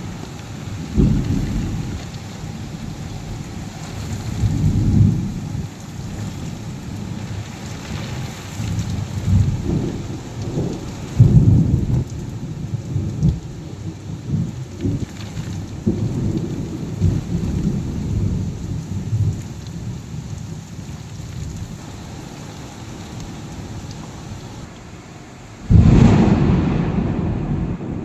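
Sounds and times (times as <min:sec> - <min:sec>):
low rumbles of thunder: 0:00.0 - 0:24.7, 0:25.6 - 0:28.0
heavy rain pouring: 0:00.0 - 0:28.0.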